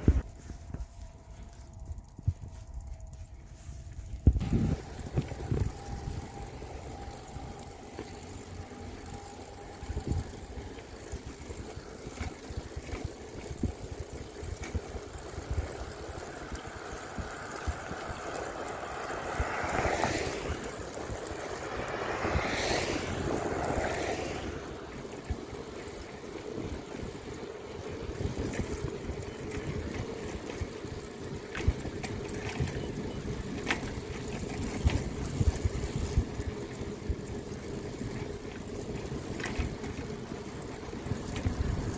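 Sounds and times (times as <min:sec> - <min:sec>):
low rumble of riding noise: 0:00.0 - 0:41.9
motor vehicle passing: 0:03.5 - 0:41.9.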